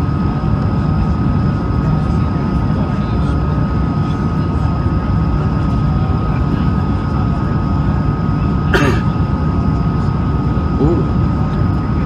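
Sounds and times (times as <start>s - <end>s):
airflow and jet engine rumble: 0.0s - 12.0s.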